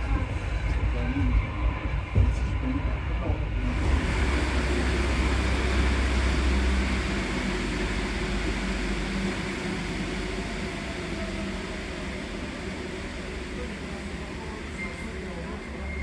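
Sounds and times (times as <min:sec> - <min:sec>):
metro train slowing down: 0:00.0 - 0:16.0.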